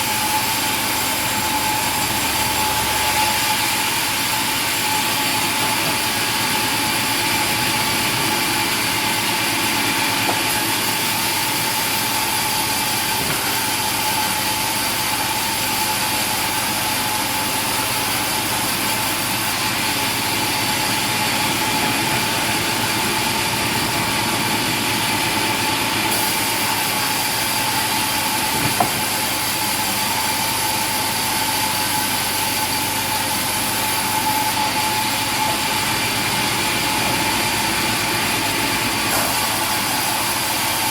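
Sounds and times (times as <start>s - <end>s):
machine running with whine: 0.0s - 40.9s.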